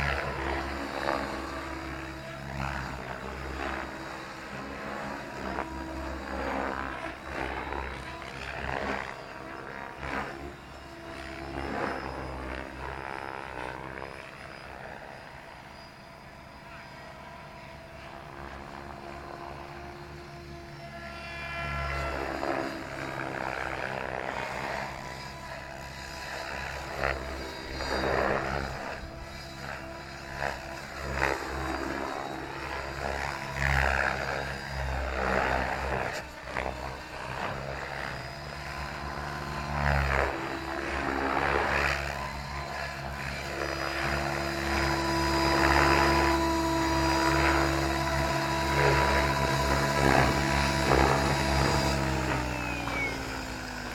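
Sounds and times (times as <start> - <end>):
model helicopter rotor and motor: 0.0 - 53.9.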